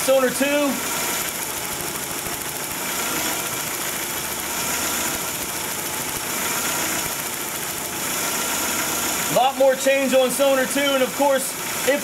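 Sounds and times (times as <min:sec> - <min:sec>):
car engine idling unevenly: 0:00.1 - 0:12.0.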